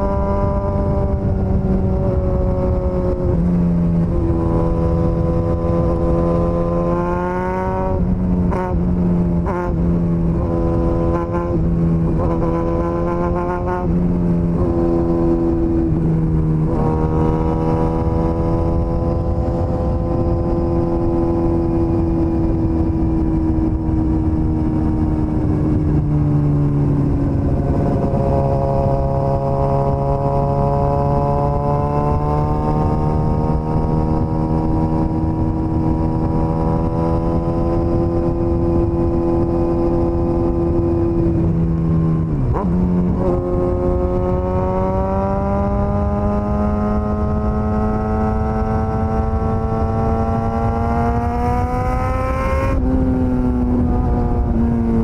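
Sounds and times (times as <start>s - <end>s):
constant rushing noise: 0.0s - 55.0s
motorcycle engine running: 0.0s - 55.0s.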